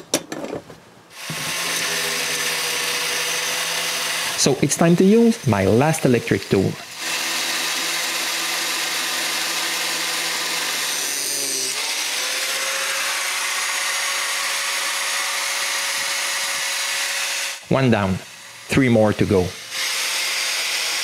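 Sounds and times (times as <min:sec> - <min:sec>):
power tool grinding metal: 0:01.1 - 0:21.0.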